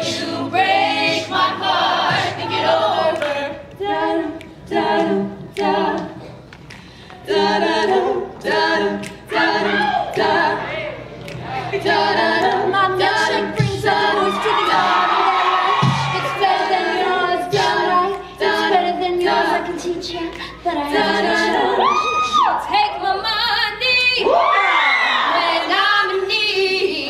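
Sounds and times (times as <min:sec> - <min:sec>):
a cappella group singing: 0:00.0 - 0:27.0.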